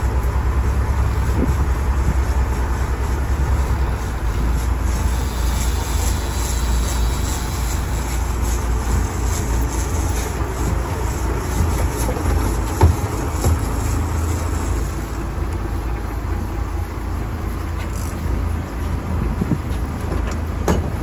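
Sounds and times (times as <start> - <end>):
boat engine low rumble: 0.0 - 21.0
wind and water rushing along hull: 0.0 - 21.0.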